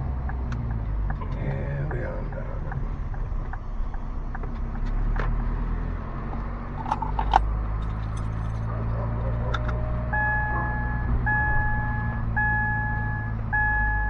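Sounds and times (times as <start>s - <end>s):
car engine and tyre hum: 0.0s - 14.0s.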